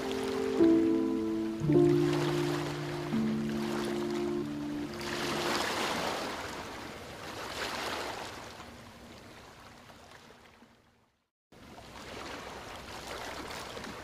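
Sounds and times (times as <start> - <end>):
sea water washing and rushing: 0.0 - 10.6, 11.6 - 14.0.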